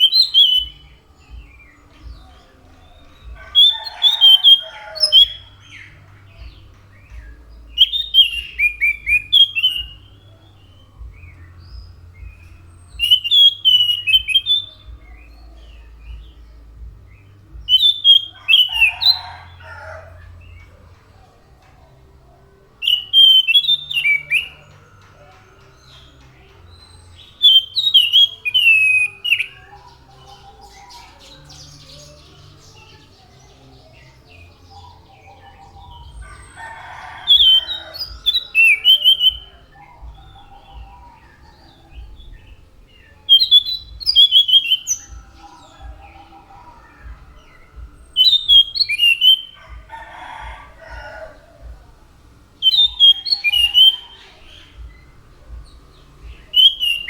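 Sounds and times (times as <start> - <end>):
soft bird calls: 0.0 - 57.0
thrush singing whistled notes: 0.0 - 57.0.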